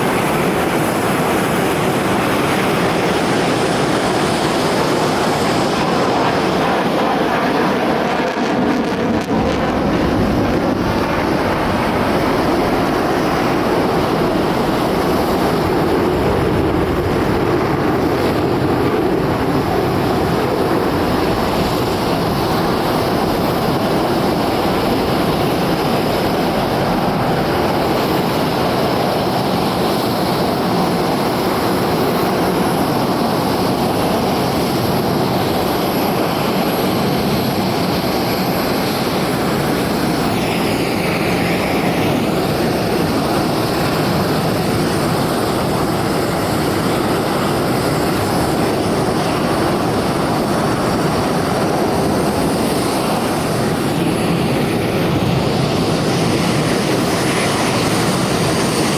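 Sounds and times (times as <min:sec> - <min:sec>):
jet engine roar: 0:00.0 - 0:58.9.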